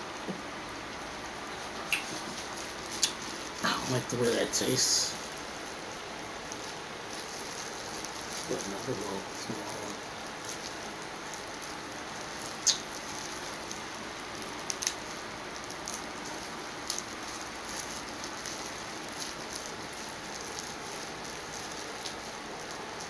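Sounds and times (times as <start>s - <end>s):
plastic gloves crinkling: 0.0s - 23.0s
steady hiss: 0.0s - 23.0s.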